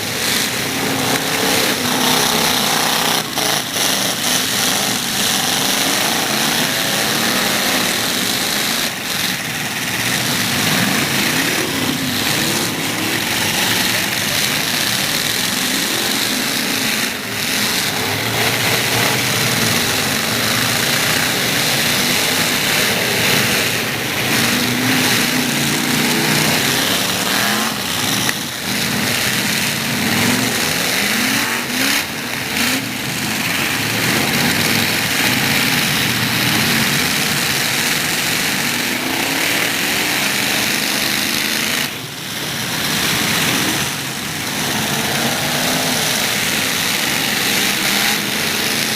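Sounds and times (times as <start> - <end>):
truck engines revving: 0.0 - 48.9.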